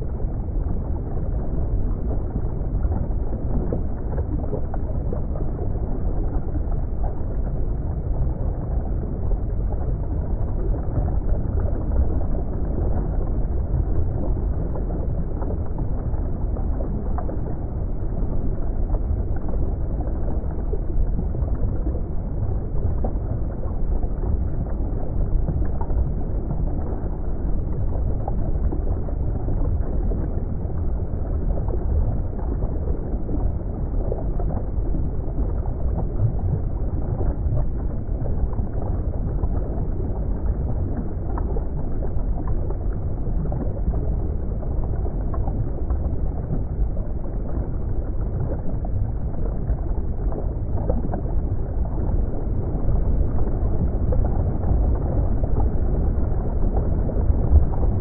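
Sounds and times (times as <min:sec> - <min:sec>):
muffled underwater wash: 0:00.0 - 0:58.0.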